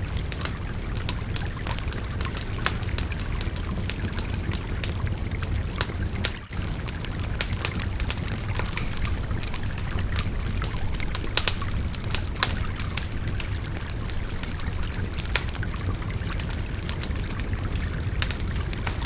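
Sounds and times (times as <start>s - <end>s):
babbling river rushing: 0.0s - 19.0s
wood fire crackling and popping: 0.0s - 19.0s.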